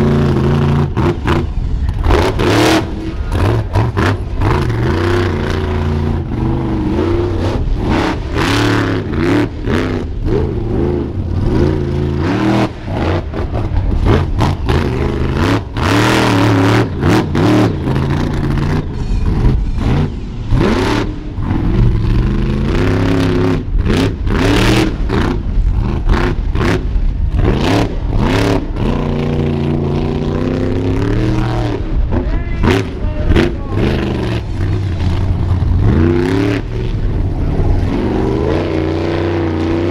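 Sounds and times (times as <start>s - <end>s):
monster truck engine revving: 0.0s - 39.9s.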